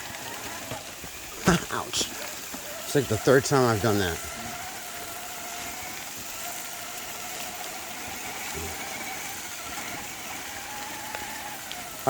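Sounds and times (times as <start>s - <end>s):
electric motor whining: 0.0s - 12.0s
rain hiss: 0.0s - 12.0s.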